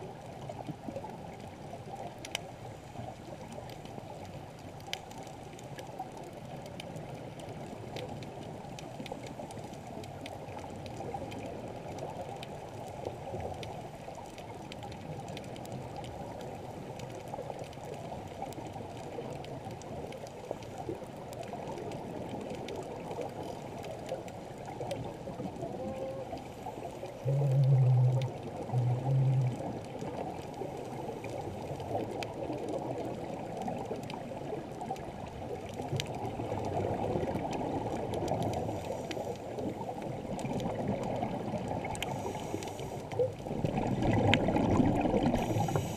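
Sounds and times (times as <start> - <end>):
faint underwater clicks: 0.0 - 45.9
muffled underwater rush: 0.0 - 45.9.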